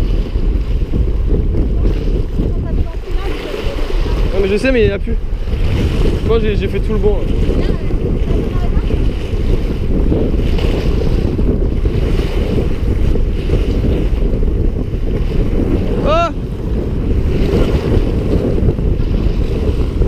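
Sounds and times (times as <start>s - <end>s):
waves washing over rocks: 0.0s - 20.0s
wind buffeting microphone: 0.0s - 20.0s.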